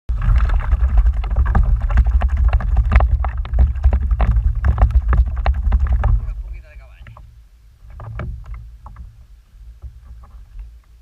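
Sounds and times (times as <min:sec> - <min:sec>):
wind rumbling on microphone: 0:00.0 - 0:11.0
gear knocking against hull: 0:00.1 - 0:10.7
water splashing against hull: 0:00.1 - 0:11.0.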